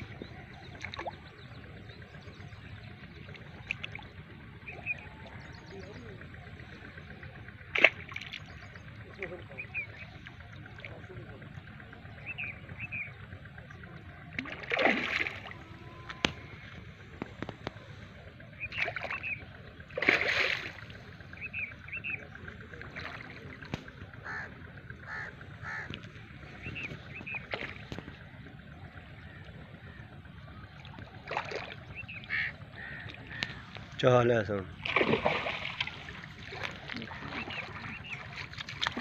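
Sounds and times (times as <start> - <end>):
harsh bird calls: 0.0 - 10.9, 11.6 - 34.8, 35.6 - 39.0.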